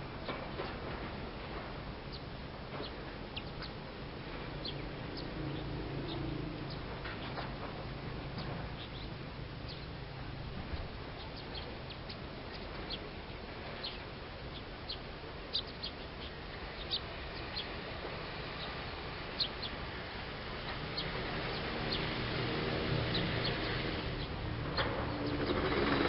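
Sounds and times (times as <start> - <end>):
low steady droning: 0.0 - 26.0
small birds chirping: 2.0 - 26.0.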